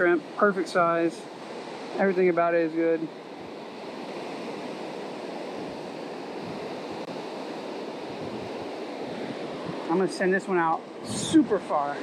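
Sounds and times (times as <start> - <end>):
small waves breaking on beach: 0.0 - 12.0.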